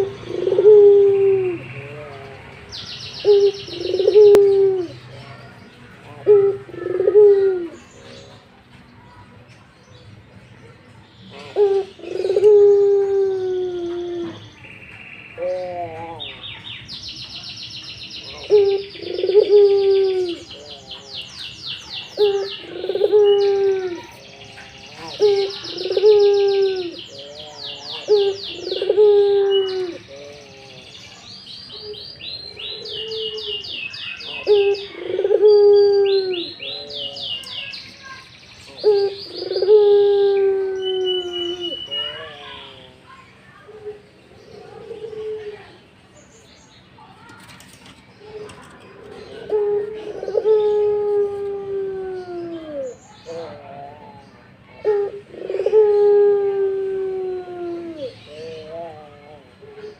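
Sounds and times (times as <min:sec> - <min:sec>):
dove cooing: 0:00.0 - 0:02.5, 0:03.2 - 0:08.3, 0:11.3 - 0:14.5, 0:15.4 - 0:16.4, 0:18.2 - 0:31.0, 0:31.8 - 0:45.9, 0:48.2 - 0:59.9
small birds chirping and trilling: 0:00.0 - 0:59.9.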